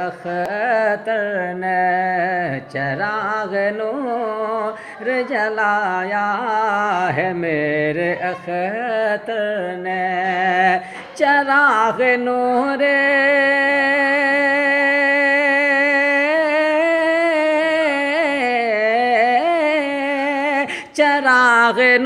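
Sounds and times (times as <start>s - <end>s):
man singing unaccompanied: 0.0s - 22.0s.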